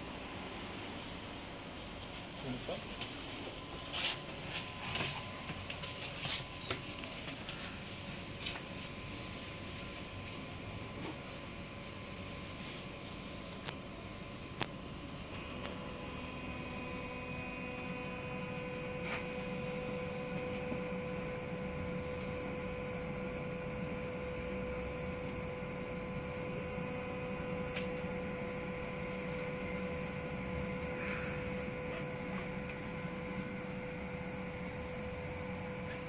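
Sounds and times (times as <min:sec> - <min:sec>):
tram electrical hum: 0:00.0 - 0:36.0.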